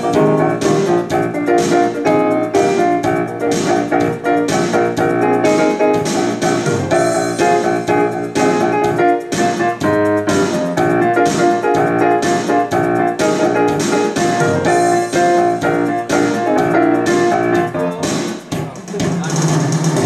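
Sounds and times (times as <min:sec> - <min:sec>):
electric piano chords: 0:00.0 - 0:18.7
steady rhythmic beat: 0:00.0 - 0:20.0.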